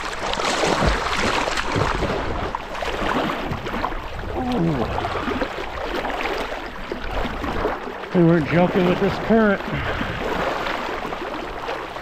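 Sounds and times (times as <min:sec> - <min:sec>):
river current rushing and splashing: 0:00.0 - 0:12.0.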